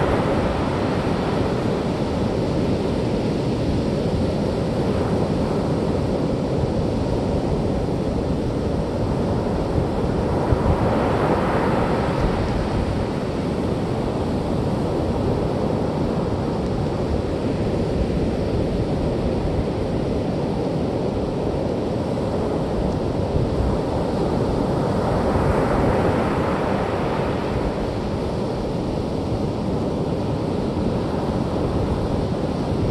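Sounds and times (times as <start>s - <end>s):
ocean surf washing on beach: 0.0s - 32.9s
wind rumbling on microphone: 0.0s - 32.9s.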